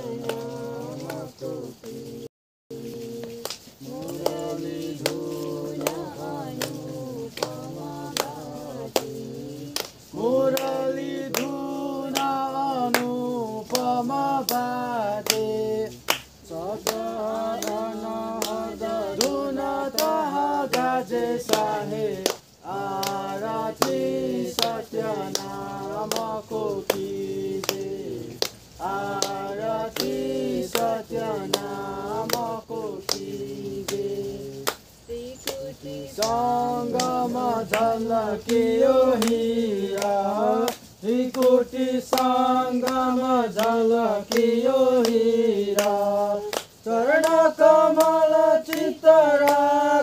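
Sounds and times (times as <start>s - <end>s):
sharp percussive beats: 0.0s - 50.0s
voices singing devotional song: 0.0s - 50.0s.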